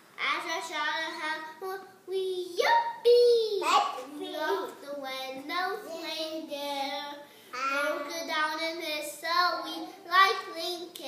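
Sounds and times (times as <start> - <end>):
young child singing: 1.1 - 11.0.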